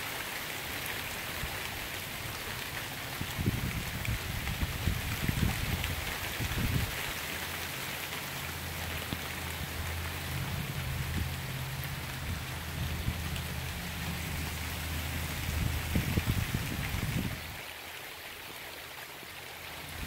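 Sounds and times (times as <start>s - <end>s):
rain on pavement and lawns: 0.0s - 20.0s.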